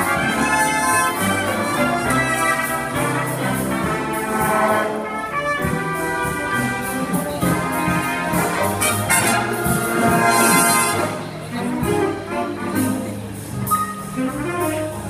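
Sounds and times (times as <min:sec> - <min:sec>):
jazz big band playing: 0:00.0 - 0:15.0.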